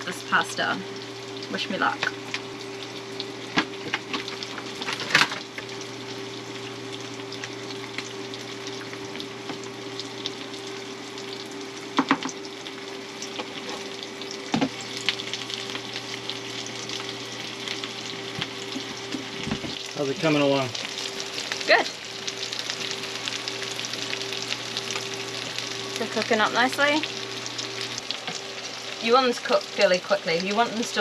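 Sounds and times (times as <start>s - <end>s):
low hum: 0.0s - 29.8s
vegetables sizzling in a pan: 0.0s - 31.0s.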